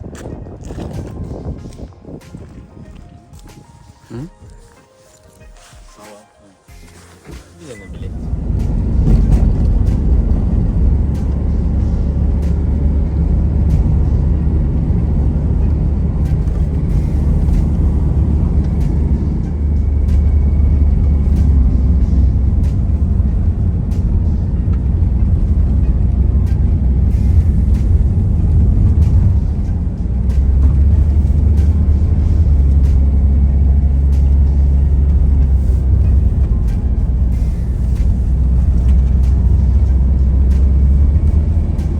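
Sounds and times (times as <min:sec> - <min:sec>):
car road and engine rumble: 0:00.0 - 0:06.0, 0:06.6 - 0:41.9.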